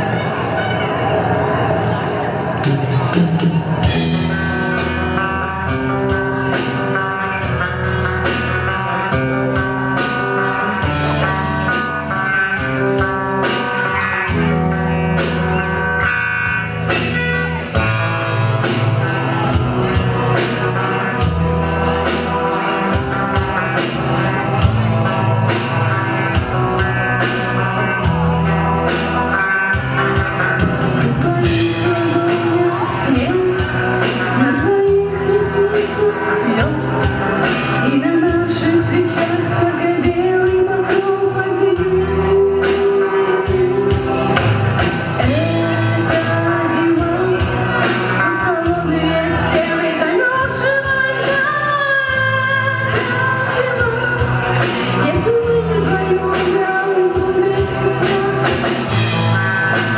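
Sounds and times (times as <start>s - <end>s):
bass guitar: 0.0s - 59.9s
electric guitar: 0.0s - 59.9s
guitar melody: 0.0s - 59.9s
drum kit beat: 2.6s - 59.9s.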